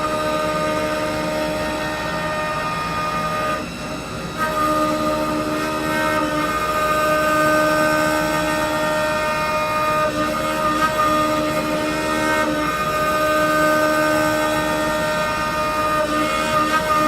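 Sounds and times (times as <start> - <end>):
lathe whining: 0.0 - 17.0.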